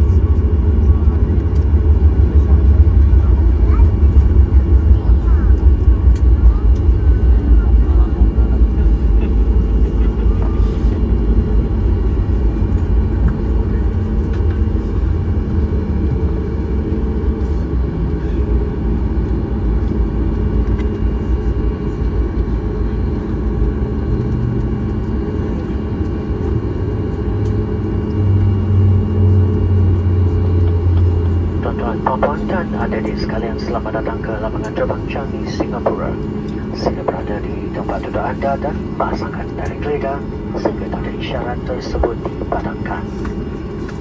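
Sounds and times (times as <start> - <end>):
airliner cabin rumble: 0.0 - 44.0
low hum: 0.0 - 44.0.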